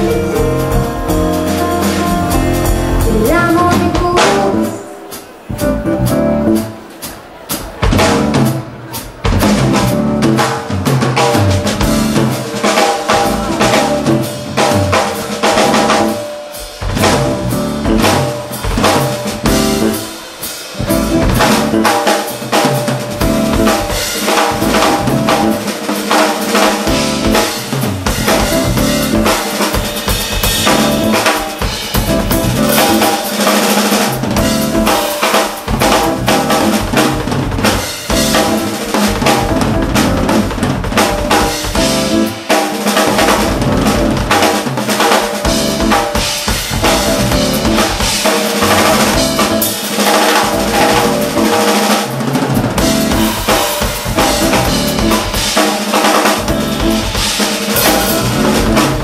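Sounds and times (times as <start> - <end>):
bass drum: 0.0 - 4.8, 5.4 - 6.6, 7.7 - 16.2, 16.8 - 20.2, 20.8 - 25.7, 26.5 - 33.3, 33.9 - 55.6, 56.2 - 59.0
bass guitar: 0.0 - 4.8, 5.4 - 6.9, 7.7 - 55.6, 56.2 - 59.0
keyboard: 0.0 - 59.0.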